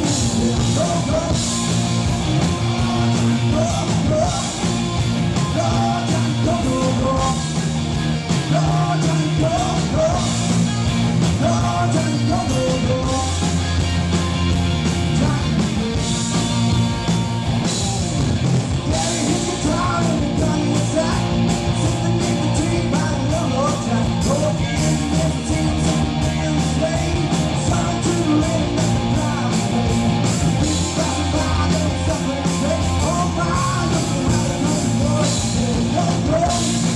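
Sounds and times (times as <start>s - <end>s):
person singing: 0.0s - 1.7s, 2.3s - 7.6s, 8.4s - 14.1s, 18.8s - 36.9s
drums and cymbals: 0.0s - 36.9s
rock band playing: 0.0s - 36.9s.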